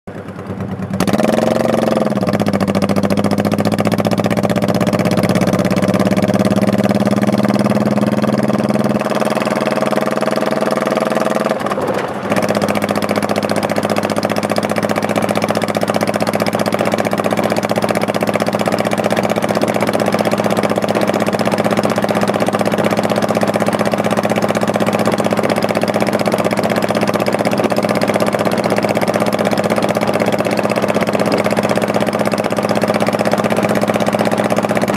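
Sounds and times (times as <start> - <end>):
motorcycle engine starting and running: 0.0 - 34.9.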